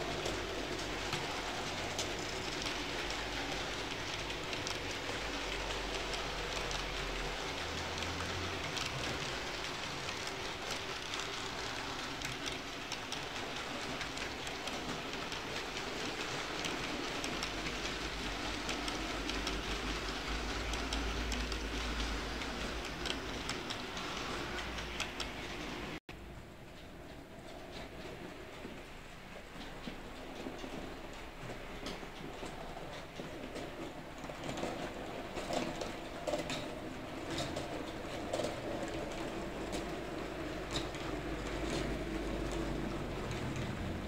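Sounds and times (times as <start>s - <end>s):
model train wheels rattling: 0.0s - 26.0s, 26.7s - 44.0s.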